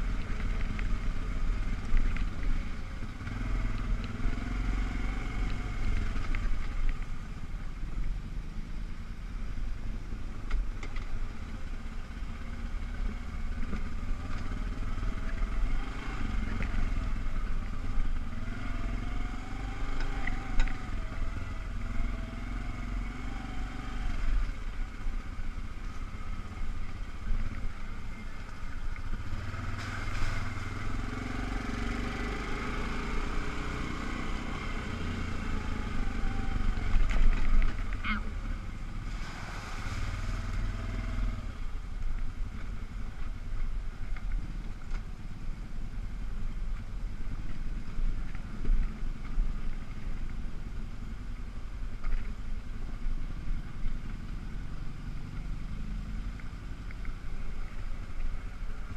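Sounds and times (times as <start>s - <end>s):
atv engine running: 0.0s - 58.9s.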